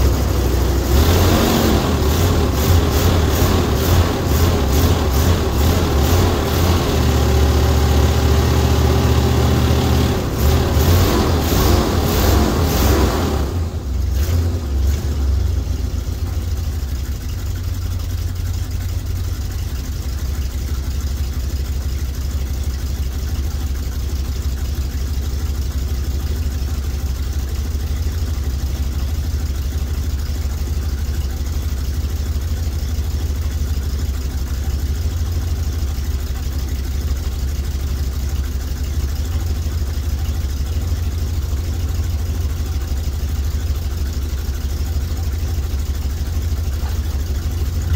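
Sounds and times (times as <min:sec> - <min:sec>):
engine idling low rumble: 0:00.0 - 0:47.9.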